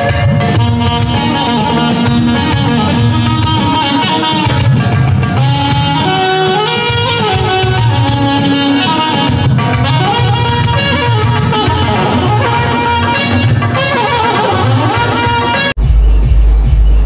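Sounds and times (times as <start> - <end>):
instrumental music with low beat: 0.0 - 17.0.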